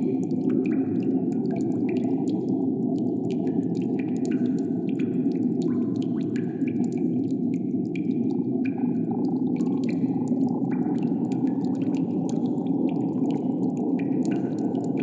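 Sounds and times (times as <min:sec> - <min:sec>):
small water drips: 0:00.0 - 0:15.0.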